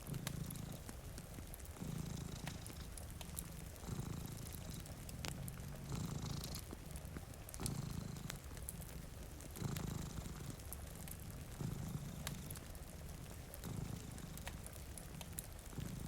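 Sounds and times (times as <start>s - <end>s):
cat purring: 0.0s - 16.0s
faint rain hiss: 0.0s - 16.0s
wood fire crackling: 0.0s - 16.0s.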